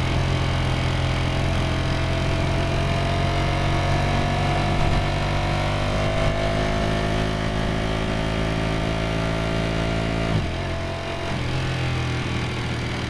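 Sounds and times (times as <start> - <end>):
motorcycle engine running steadily: 0.0 - 13.0.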